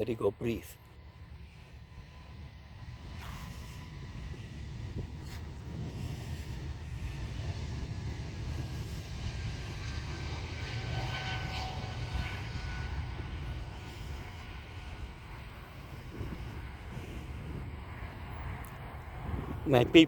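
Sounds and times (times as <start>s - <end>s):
jet engines taking off: 0.0s - 20.0s.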